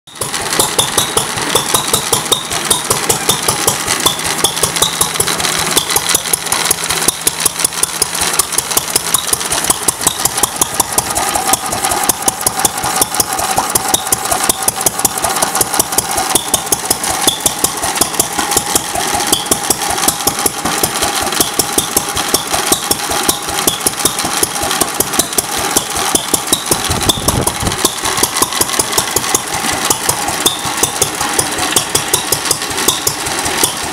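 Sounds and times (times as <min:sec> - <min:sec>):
single-cylinder engine running: 0:00.1 - 0:33.9.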